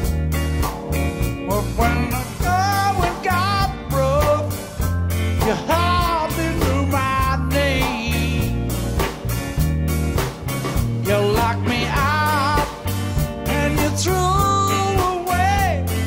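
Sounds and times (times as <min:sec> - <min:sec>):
bass: 0:00.0 - 0:16.0
drums: 0:00.0 - 0:16.0
organ: 0:00.0 - 0:16.0.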